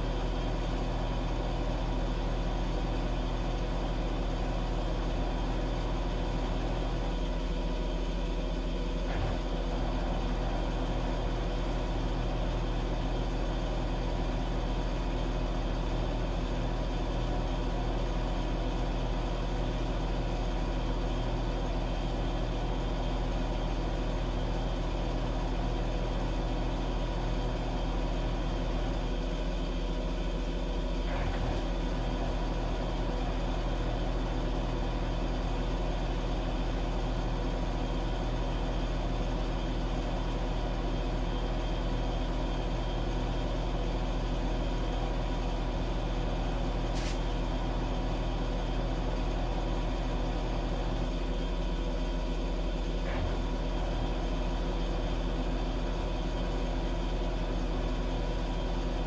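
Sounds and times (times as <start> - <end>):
washing machine motor hum: 0.0 - 29.5, 30.3 - 59.0.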